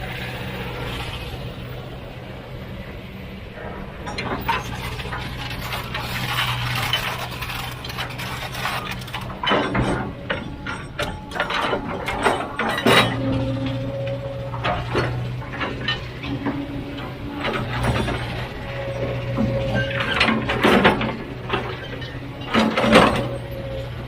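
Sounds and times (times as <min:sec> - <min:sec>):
diesel engine running: 0:00.0 - 0:24.0
metal and rock clanking: 0:03.6 - 0:24.0.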